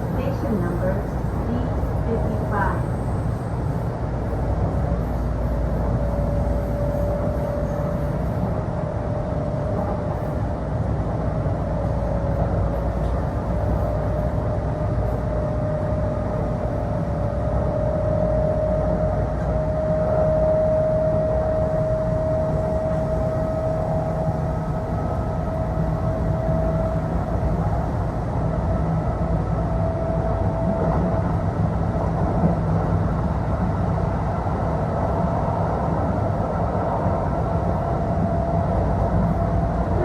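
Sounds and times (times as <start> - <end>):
train rumble: 0.0 - 40.0.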